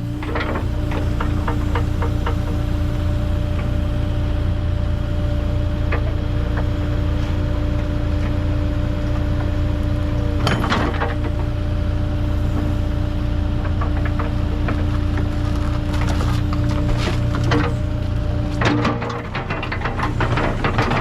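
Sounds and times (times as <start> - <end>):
excavator engine idling: 0.0 - 21.0.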